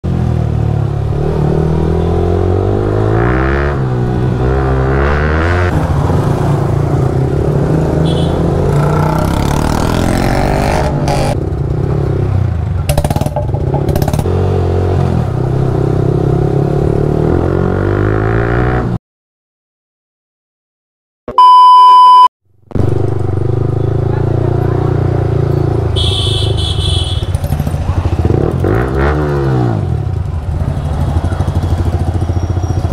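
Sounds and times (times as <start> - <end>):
motorcycle engine revving: 0.1 - 19.0, 22.7 - 32.9.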